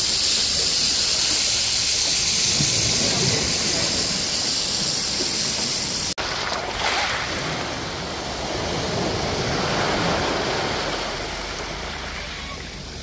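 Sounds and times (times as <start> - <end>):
surf washing over rocky shore: 0.0 - 13.0.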